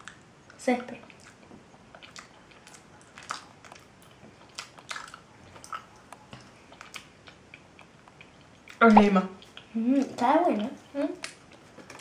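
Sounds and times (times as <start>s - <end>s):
mouth chewing clicks and smacks: 0.0s - 12.0s.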